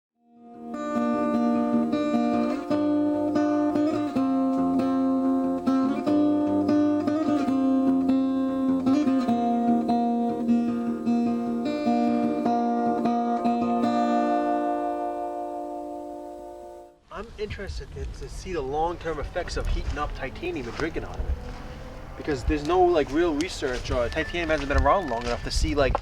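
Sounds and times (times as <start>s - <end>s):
acoustic guitar music: 0.3s - 17.0s, 19.7s - 25.6s.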